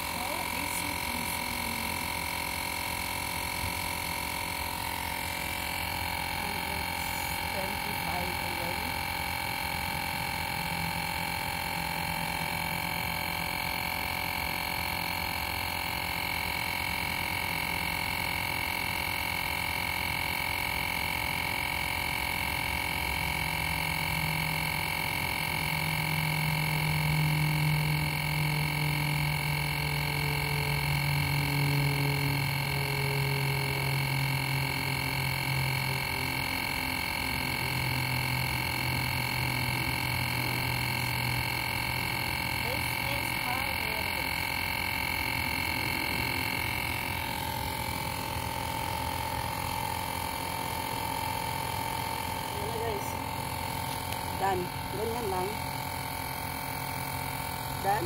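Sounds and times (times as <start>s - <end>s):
tire inflator compressor whining: 0.0s - 58.0s.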